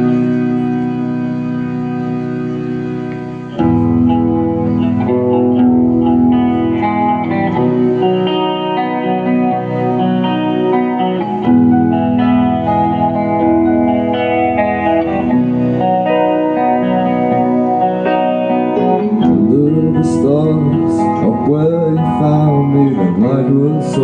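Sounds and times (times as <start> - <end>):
electric guitar melody: 0.0 - 24.0
held keyboard chord: 0.0 - 24.0
rock band playing: 0.0 - 24.0.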